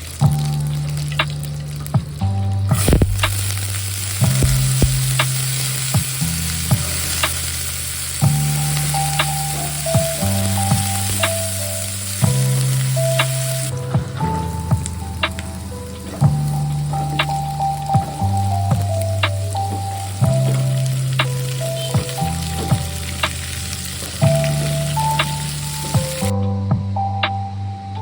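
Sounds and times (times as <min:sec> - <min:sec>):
food sizzling in hot oil: 0:00.0 - 0:26.3
soft background music: 0:00.0 - 0:28.0.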